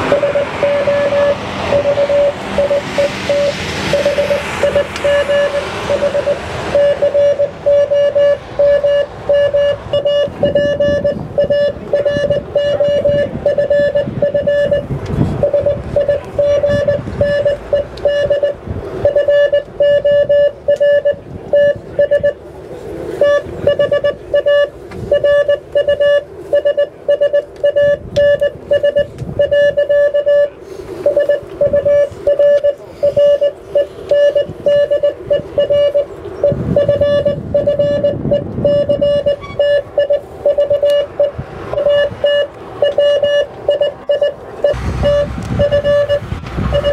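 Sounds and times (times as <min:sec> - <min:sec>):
morse code beeps: 0:00.0 - 0:22.4, 0:23.2 - 0:46.9
low background rumble: 0:00.0 - 0:46.9.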